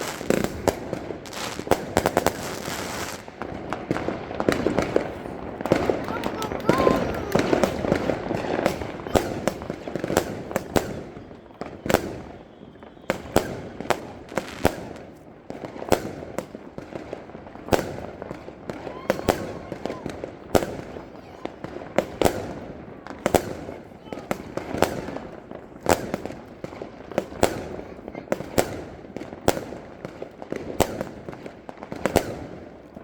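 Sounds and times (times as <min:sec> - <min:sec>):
fireworks bangs and cracks: 0:00.0 - 0:33.0
fireworks crackle: 0:00.0 - 0:33.0.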